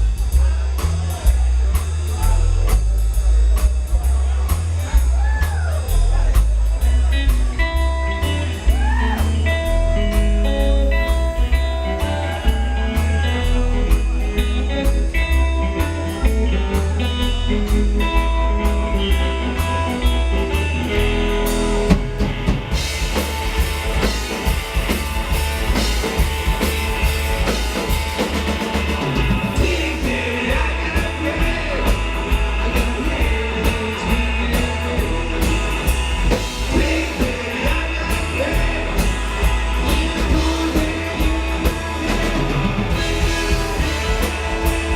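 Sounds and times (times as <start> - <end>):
bass: 0.0 - 44.9
driving drum beat: 0.0 - 44.9.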